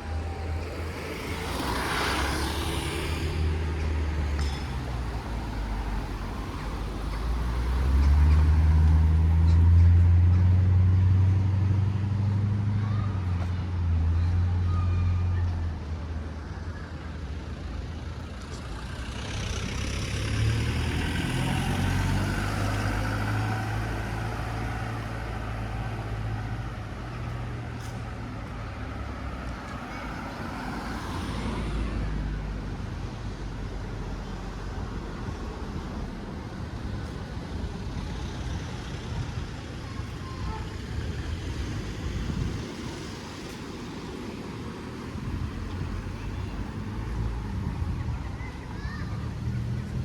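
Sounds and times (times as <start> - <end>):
vehicle passing with tyre noise: 0.0 - 50.0.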